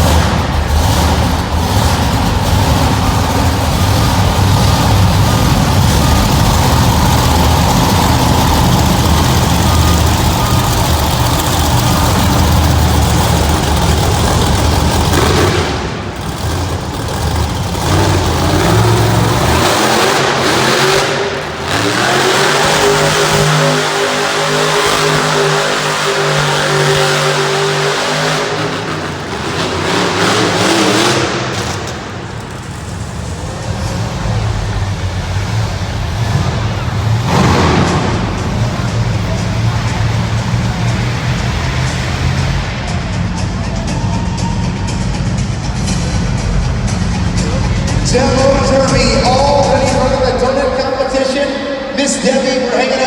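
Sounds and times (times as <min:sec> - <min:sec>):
monster truck engine revving: 0:00.0 - 0:53.0.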